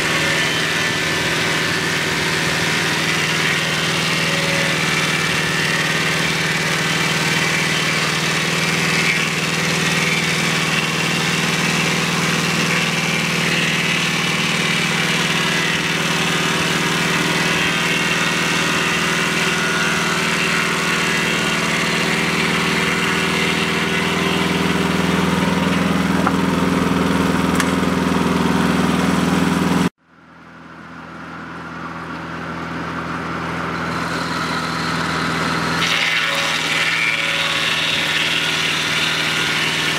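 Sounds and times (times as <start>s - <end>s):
circular saw cutting log: 0.0s - 29.9s, 31.3s - 39.9s
sawmill engine running: 0.0s - 39.9s.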